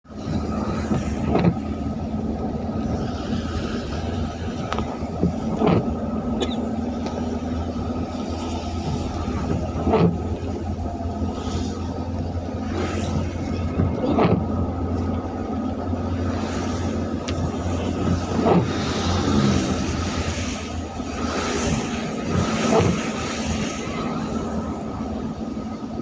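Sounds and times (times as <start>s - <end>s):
tyres on wet road: 0.0s - 26.0s
vehicle engine drone: 0.0s - 26.0s.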